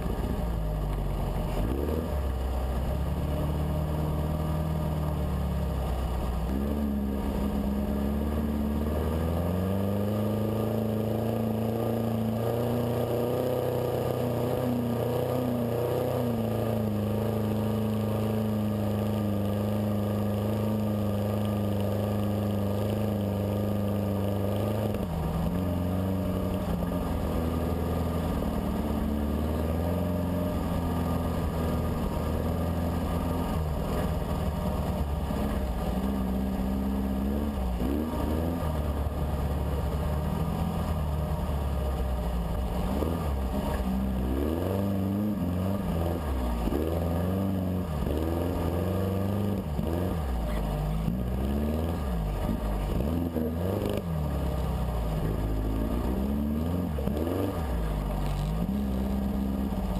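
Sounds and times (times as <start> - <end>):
dune buggy engine revving: 0.0 - 59.9.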